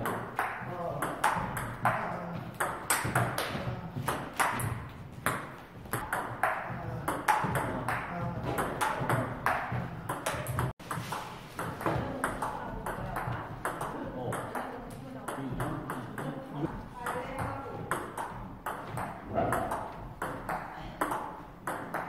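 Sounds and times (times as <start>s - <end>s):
ping pong ball bouncing on table: 0.0s - 22.0s
ping pong ball hitting paddles: 0.0s - 22.0s.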